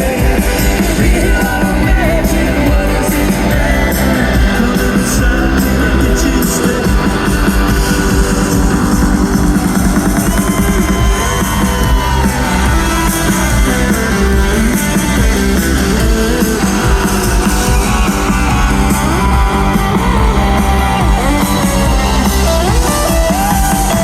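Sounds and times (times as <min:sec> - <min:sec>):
guitars: 0:00.0 - 0:24.0
steady drum beat: 0:00.0 - 0:24.0.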